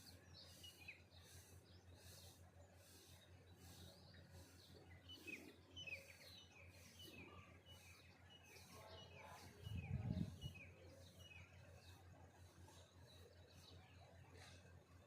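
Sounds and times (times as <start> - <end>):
small bird chirping: 0.0 - 14.7.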